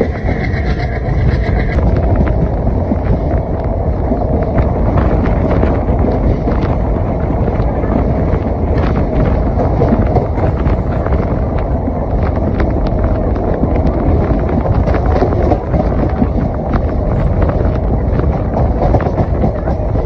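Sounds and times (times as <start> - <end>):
train rumbling: 0.0 - 20.0
wind buffeting microphone: 0.0 - 20.0.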